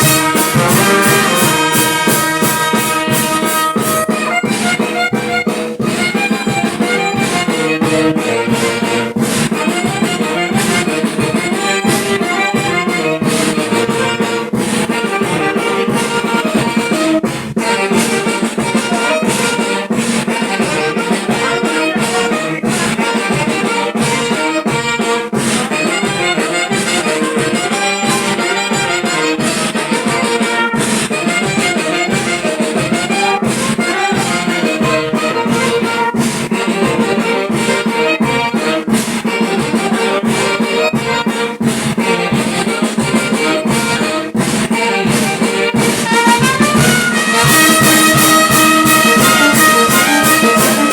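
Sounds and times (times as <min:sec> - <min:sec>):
brass band playing: 0:00.0 - 0:50.9
drums: 0:00.0 - 0:50.9.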